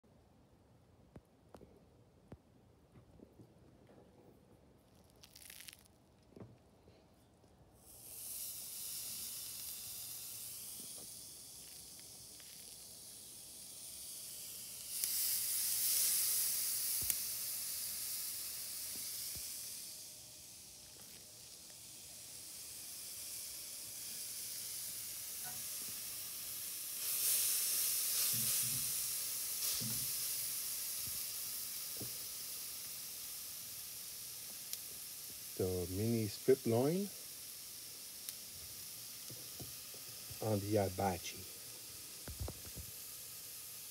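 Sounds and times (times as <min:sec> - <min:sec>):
steaks sizzling on grill: 0:07.8 - 0:43.9.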